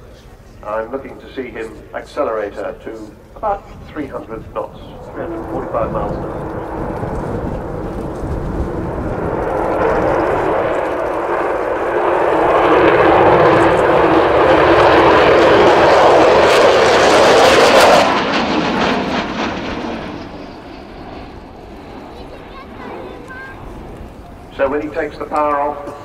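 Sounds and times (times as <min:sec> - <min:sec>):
loud crackling jet noise: 0:00.0 - 0:26.0.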